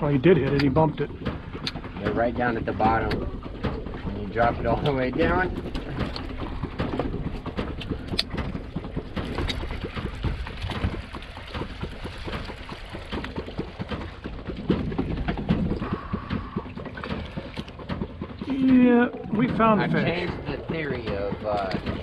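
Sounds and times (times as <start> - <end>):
irregular clicks and knocks: 0.0 - 22.0
water lapping against boat hull: 0.0 - 22.0
wind buffeting microphone: 0.0 - 22.0.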